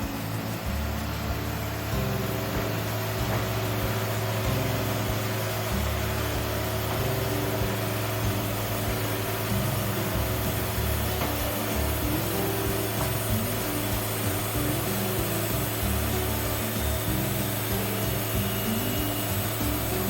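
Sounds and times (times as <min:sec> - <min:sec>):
sawmill machine hum: 0:00.0 - 0:20.0.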